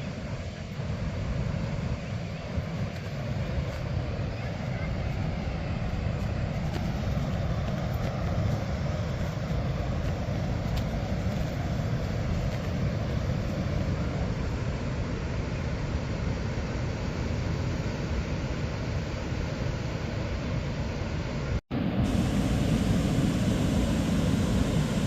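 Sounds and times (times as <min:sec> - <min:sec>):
waterfall roaring: 0:00.0 - 0:18.0, 0:21.3 - 0:25.0.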